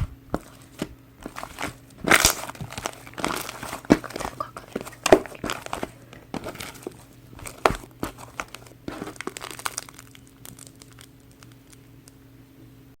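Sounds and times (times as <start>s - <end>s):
slime crackling and popping: 0.2s - 12.0s.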